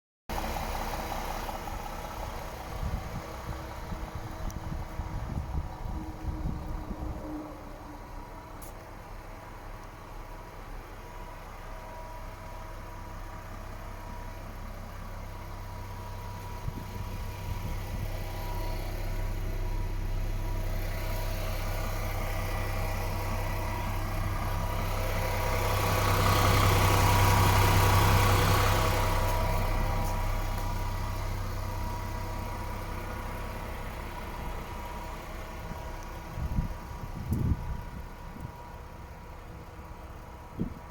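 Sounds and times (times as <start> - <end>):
diesel truck engine idling: 0.3 - 40.9.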